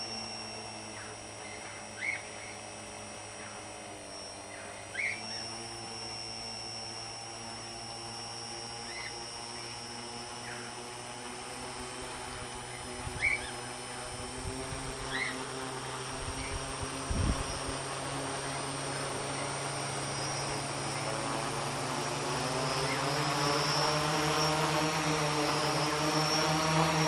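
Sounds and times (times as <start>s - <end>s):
drone motors humming with whine: 0.0s - 27.0s.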